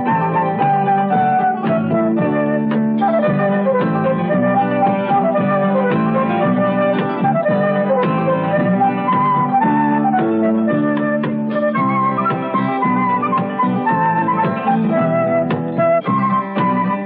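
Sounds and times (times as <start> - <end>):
flute melody: 0.0 - 17.0
plucked guitar notes: 0.0 - 17.0.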